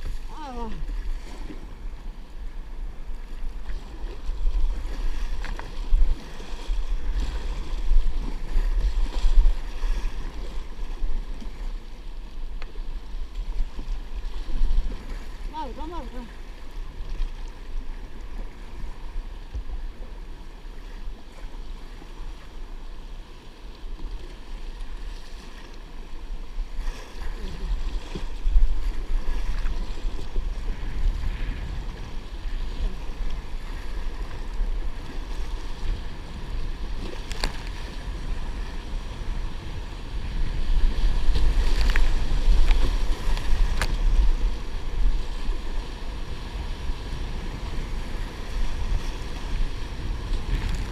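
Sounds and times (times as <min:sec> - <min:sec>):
open water wash: 0:00.0 - 0:50.9
wind rumbling on microphone: 0:00.0 - 0:50.9.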